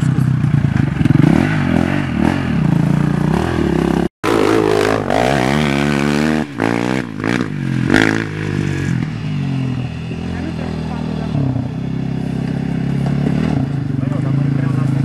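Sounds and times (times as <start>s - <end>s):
quad bike engines revving: 0.0s - 15.0s.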